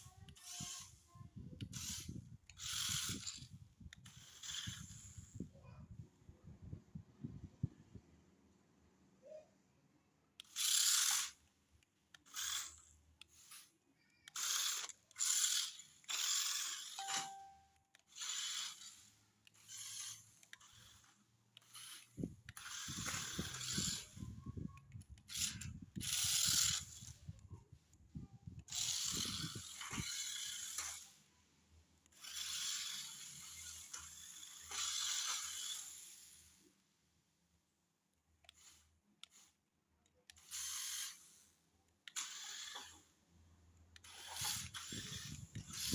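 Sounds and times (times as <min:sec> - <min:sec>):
toy car motor whirring: 0:00.0 - 0:05.8, 0:10.3 - 0:37.0, 0:38.3 - 0:45.9.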